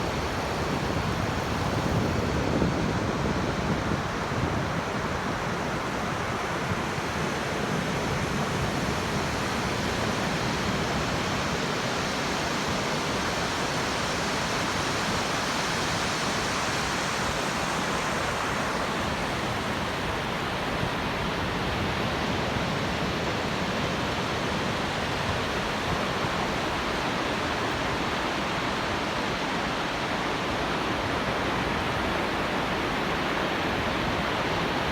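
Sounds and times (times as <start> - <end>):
waves breaking on beach: 0.0 - 34.9.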